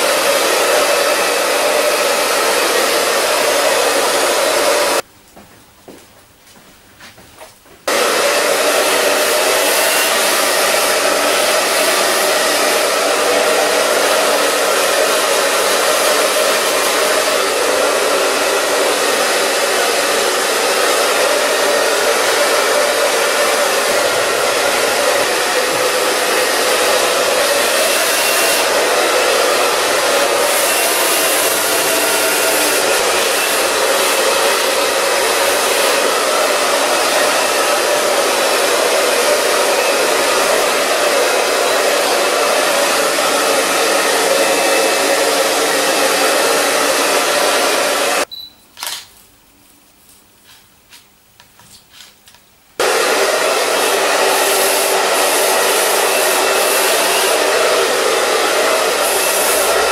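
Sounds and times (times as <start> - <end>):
hair dryer running: 0.0 - 5.0, 7.9 - 48.3, 52.8 - 59.9.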